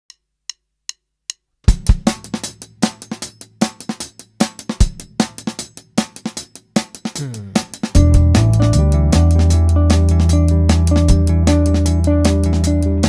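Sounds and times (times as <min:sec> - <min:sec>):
drum kit and bass beat: 0:01.7 - 0:13.0.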